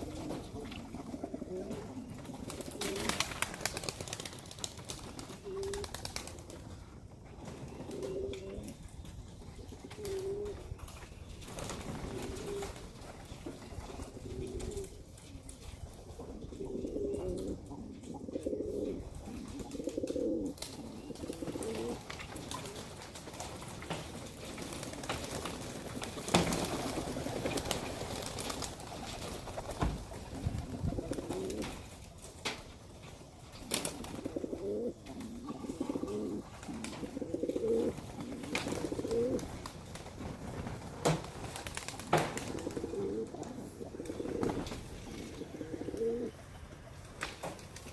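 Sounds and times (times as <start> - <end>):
pigeons cooing: 0.0 - 31.9, 33.6 - 47.0.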